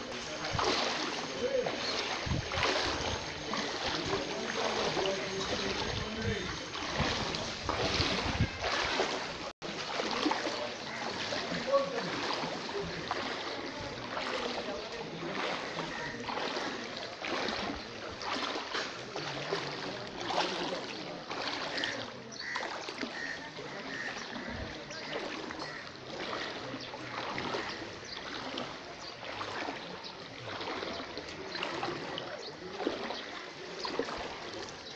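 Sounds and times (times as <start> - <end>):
water sloshing and splashing: 0.0 - 34.9.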